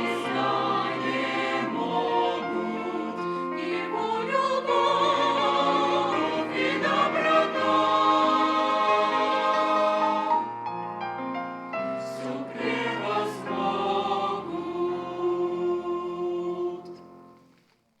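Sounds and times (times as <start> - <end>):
church choir singing a hymn: 0.0 - 10.8, 11.7 - 17.3.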